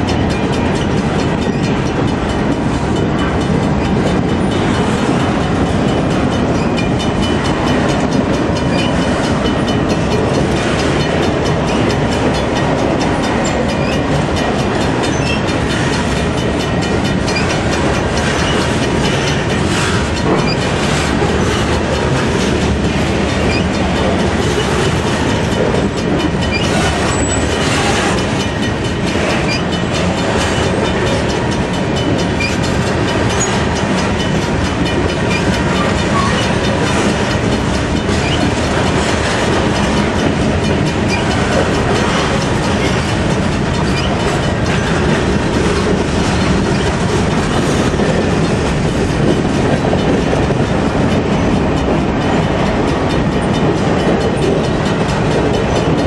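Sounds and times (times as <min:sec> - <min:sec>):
freight train wheels rumbling: 0:00.0 - 0:56.0
wheels clicking over rail joints: 0:00.0 - 0:56.0.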